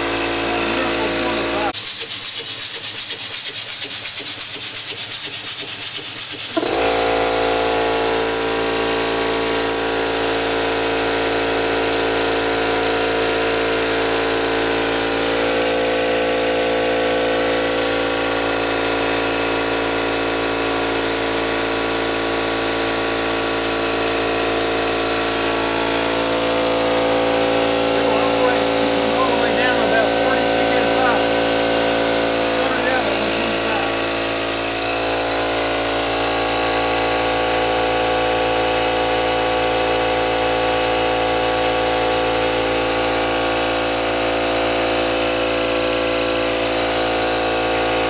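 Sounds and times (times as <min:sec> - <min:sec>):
loud machine hum: 0:00.0 - 0:01.8, 0:06.6 - 0:48.0
steam engine exhaust puffing: 0:00.0 - 0:48.0.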